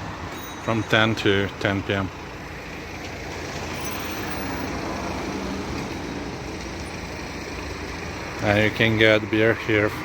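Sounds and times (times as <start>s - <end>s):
passing vehicles rushing: 0.0s - 10.0s.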